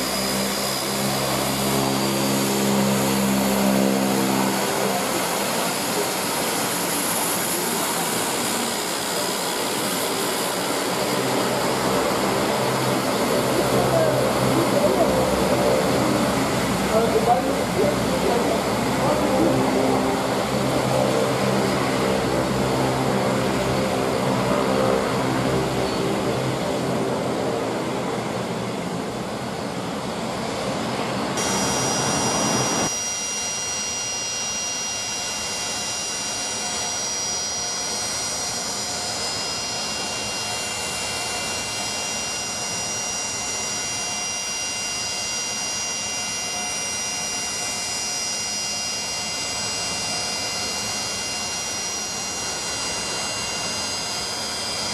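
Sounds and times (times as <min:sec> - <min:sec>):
high engine whine: 0:00.0 - 0:54.9
turboprop engines droning: 0:00.0 - 0:54.9.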